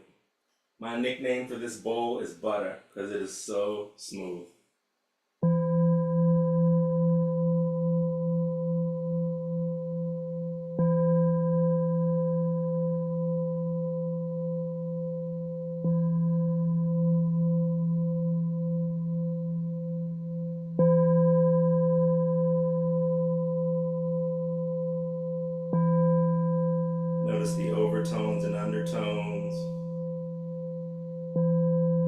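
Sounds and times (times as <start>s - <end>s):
singing bowl ringing: 5.4s - 32.0s.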